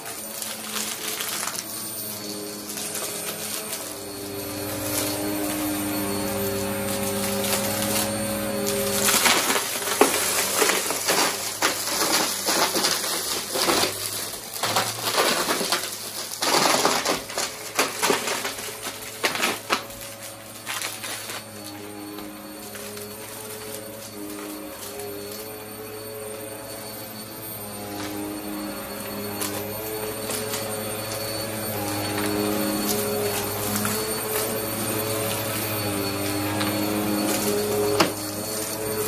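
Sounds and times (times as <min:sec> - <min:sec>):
debris rattling in vacuum: 0:00.0 - 0:39.0
vacuum cleaner motor hum: 0:00.0 - 0:39.0.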